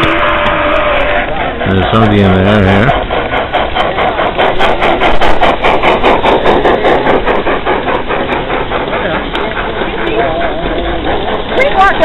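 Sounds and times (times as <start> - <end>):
train rhythmic clatter: 0.0 - 12.0.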